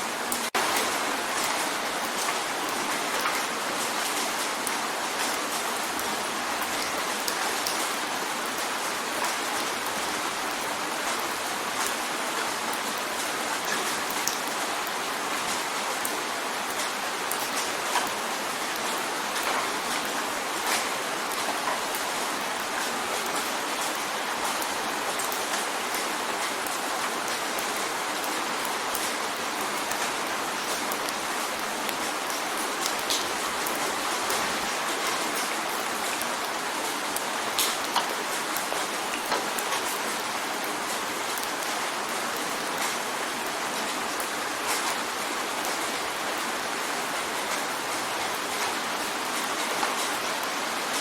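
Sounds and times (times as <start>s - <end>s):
rain drumming on a window: 0.0s - 51.0s.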